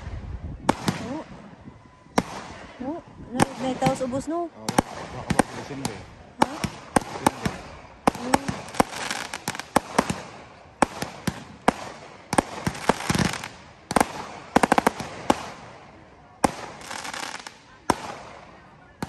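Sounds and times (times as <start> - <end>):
fireworks bangs: 0.0 - 19.0
fireworks crackling hiss: 2.1 - 18.6.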